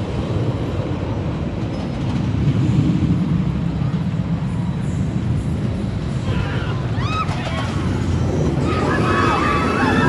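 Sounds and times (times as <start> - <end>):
roller coaster train rumbling on track: 0.0 - 10.0.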